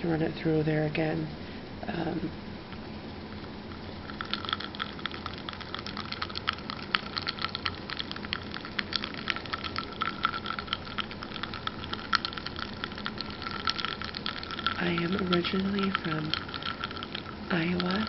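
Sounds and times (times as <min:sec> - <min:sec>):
ice cubes crackling in water: 0:03.4 - 0:18.0.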